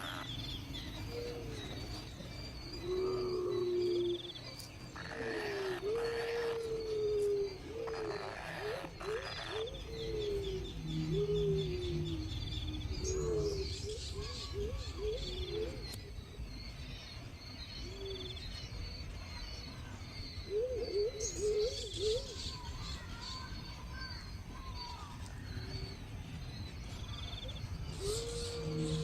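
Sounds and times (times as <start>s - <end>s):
bird cooing call: 0.0s - 16.7s, 17.5s - 26.0s, 26.8s - 29.0s
faint high bird chirps and trills: 0.0s - 29.0s.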